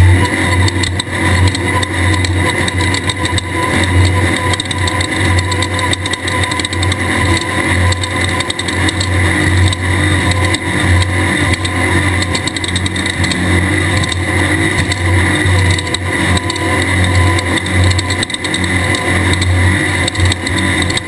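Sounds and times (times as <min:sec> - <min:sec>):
race car engine running: 0:00.0 - 0:21.0
knocks and rattles: 0:00.6 - 0:21.0.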